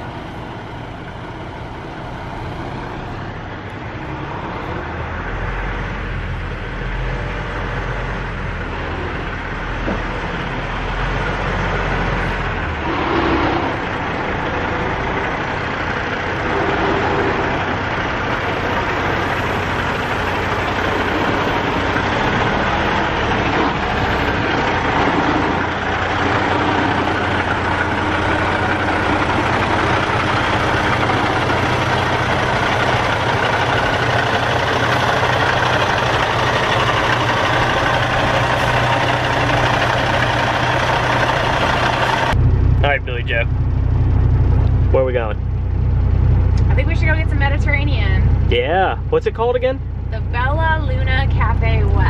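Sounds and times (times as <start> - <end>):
truck diesel engine at low revs: 0.0 - 52.0.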